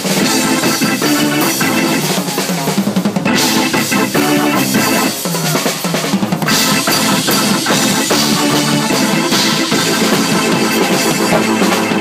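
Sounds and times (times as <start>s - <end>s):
rapid drum kit hits: 0.0s - 12.0s
rock band playing loudly: 0.0s - 12.0s.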